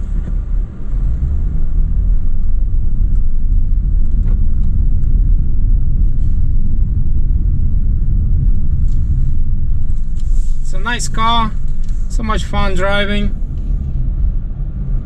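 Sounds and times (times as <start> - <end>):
car engine rumble in cabin: 0.0 - 15.0
road noise: 0.0 - 15.0.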